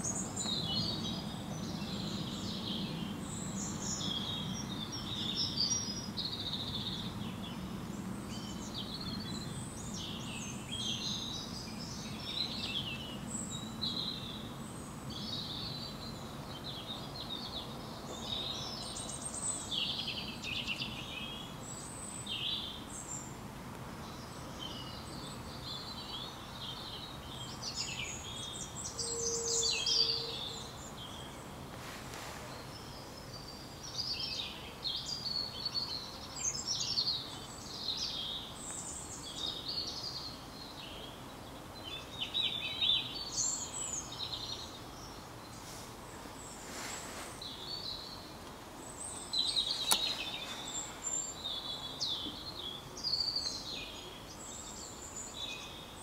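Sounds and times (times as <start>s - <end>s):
birds chirping and trilling: 0.0s - 23.3s, 24.0s - 31.6s, 32.4s - 56.0s
low steady background noise: 0.0s - 56.0s.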